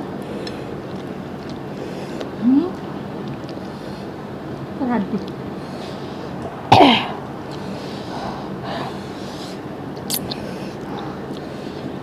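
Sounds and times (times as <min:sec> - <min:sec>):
electric fan running: 0:00.0 - 0:12.0
people eating by hand: 0:00.0 - 0:12.0.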